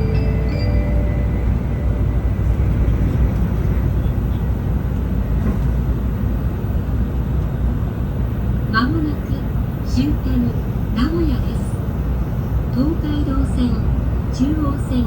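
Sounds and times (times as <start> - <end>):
train running rumble and hiss: 0.0 - 15.0.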